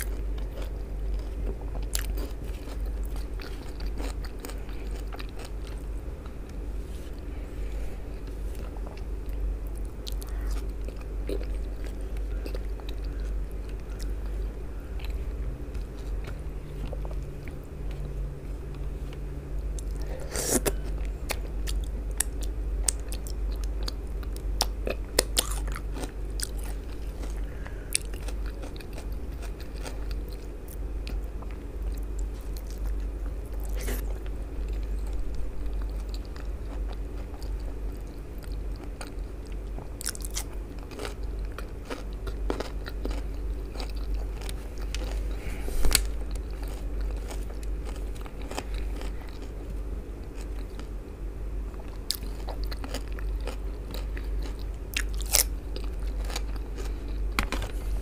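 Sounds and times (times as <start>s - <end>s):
chewing wet food: 0.0s - 7.3s, 8.1s - 51.0s, 51.7s - 57.7s
low steady hum: 0.0s - 58.0s.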